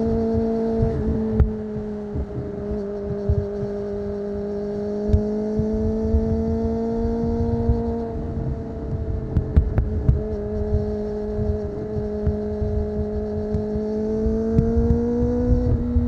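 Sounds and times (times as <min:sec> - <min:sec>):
motorcycle engine at steady revs: 0:00.0 - 0:16.0.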